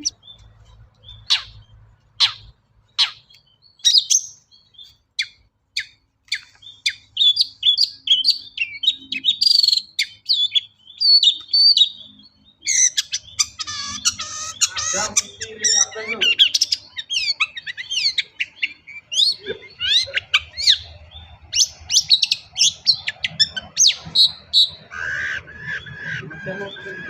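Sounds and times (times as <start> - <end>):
shrike singing: 2.2 - 27.0.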